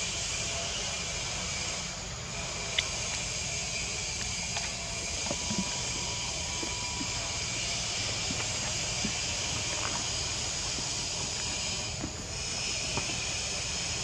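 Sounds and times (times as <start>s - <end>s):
forest background hiss: 0.0s - 14.0s.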